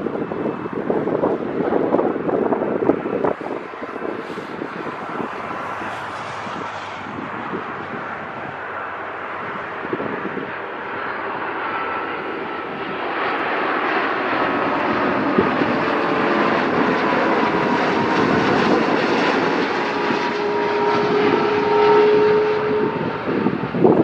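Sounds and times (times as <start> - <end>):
jet aircraft engine noise: 0.0 - 24.0
steady aircraft whine: 0.0 - 24.0.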